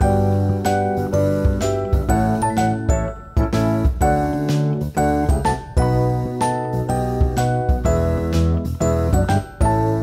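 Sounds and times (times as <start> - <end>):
light tinkly background music: 0.0 - 10.0.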